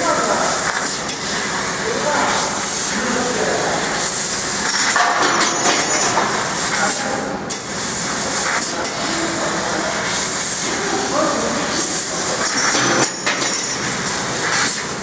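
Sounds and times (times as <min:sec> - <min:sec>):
gas hissing from nozzle: 0:00.0 - 0:15.0.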